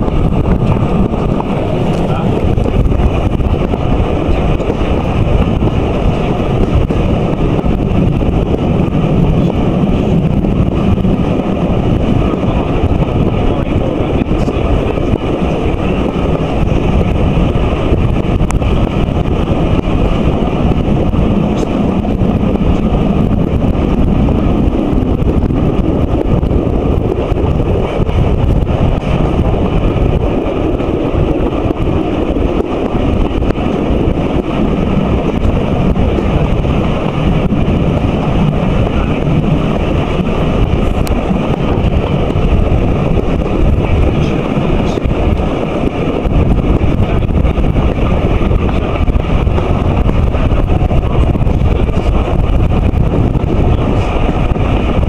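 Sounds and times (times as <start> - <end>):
train running on track: 0.0 - 55.0
wind buffeting microphone: 0.0 - 55.0.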